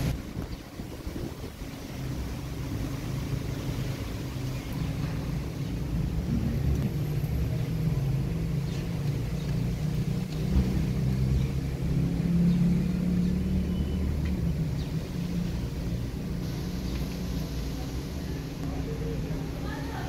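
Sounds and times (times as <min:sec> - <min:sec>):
low engine-like rumble: 0:00.0 - 0:20.0.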